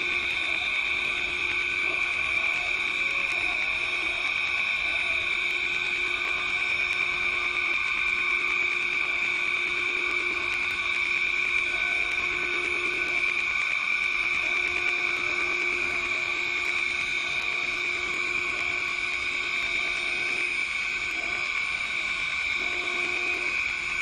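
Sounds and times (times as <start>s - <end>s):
vacuum suction motor whining: 0.0s - 24.0s.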